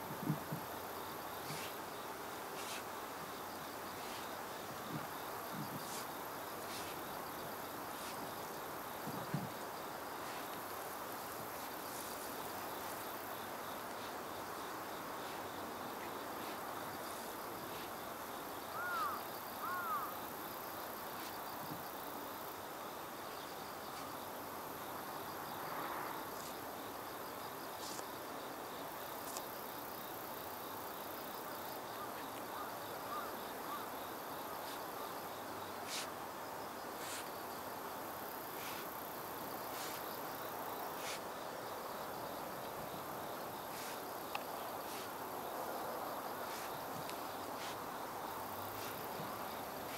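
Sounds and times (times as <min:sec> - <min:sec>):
background hiss: 0:00.0 - 0:49.9
insects chirping: 0:00.0 - 0:49.9.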